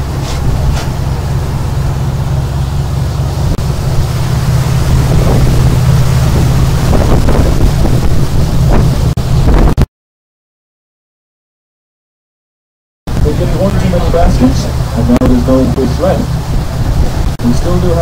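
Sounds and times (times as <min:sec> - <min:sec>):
boat engine droning: 0:00.0 - 0:09.8, 0:13.1 - 0:18.0
wind buffeting microphone: 0:00.0 - 0:09.9, 0:13.1 - 0:18.0.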